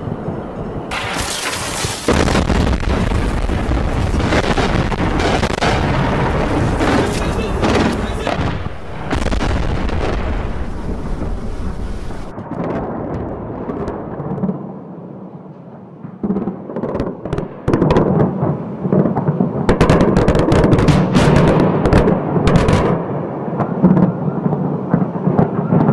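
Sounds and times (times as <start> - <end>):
sharp bangs and cracks: 0.0 - 14.7, 18.9 - 25.9
explosions rumbling: 0.0 - 25.9.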